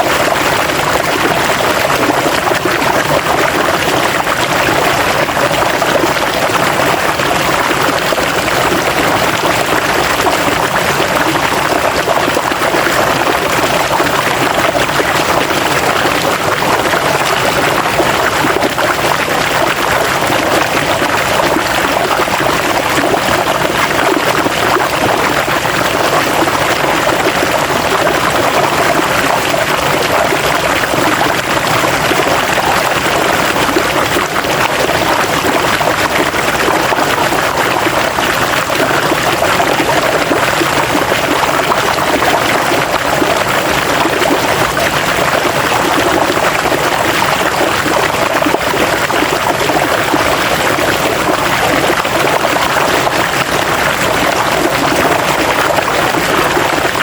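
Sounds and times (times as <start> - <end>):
water flowing over rocks: 0.0 - 57.0.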